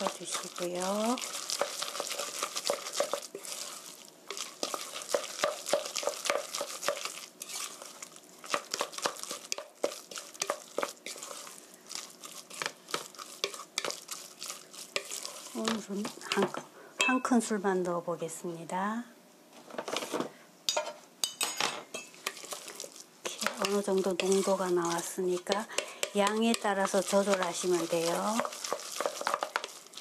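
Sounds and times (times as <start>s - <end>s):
wet mixing noise: 0.0s - 16.6s, 22.2s - 30.0s
wooden spatula scraping steel bowl: 0.0s - 16.6s, 22.2s - 30.0s.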